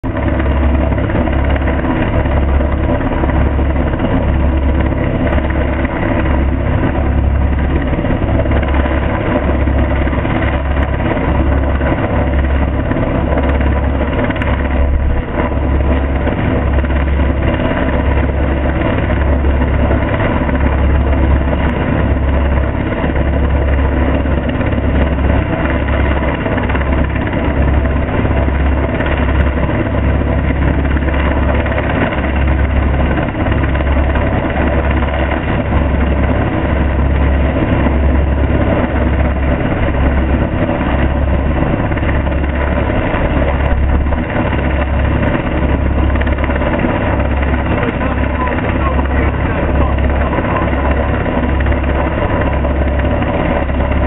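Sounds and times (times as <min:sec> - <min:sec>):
helicopter hovering overhead: 0:00.0 - 0:54.0.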